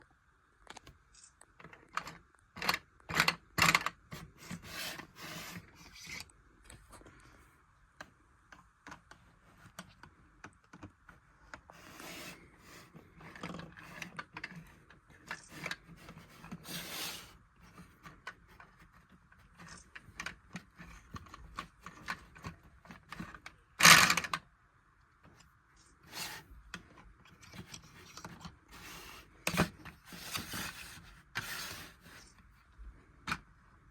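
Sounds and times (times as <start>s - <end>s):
plastic parts clicking and rattling: 0.7s - 7.1s, 8.5s - 24.5s, 25.2s - 32.5s.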